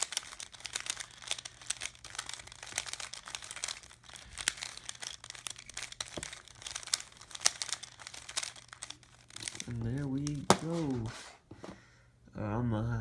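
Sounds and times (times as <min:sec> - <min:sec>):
puzzle cube plastic clicks: 0:00.0 - 0:11.3.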